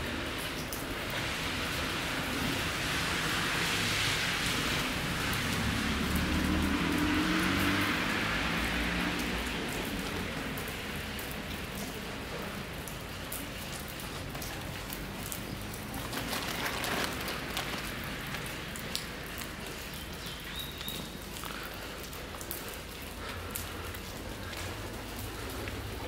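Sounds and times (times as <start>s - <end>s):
rain hissing on wet pavement: 0.0s - 26.0s
water dripping: 0.0s - 26.0s.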